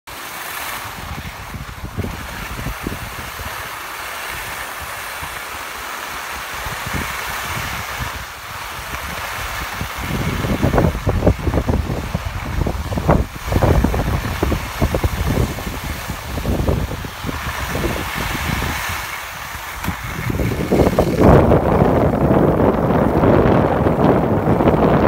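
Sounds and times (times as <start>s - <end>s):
skis hissing over snow: 0.1s - 24.7s
wind buffeting microphone: 0.6s - 25.0s.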